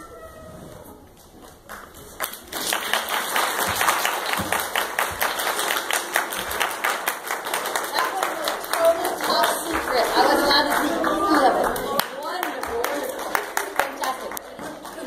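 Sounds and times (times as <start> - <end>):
audience clapping: 1.5 - 15.0.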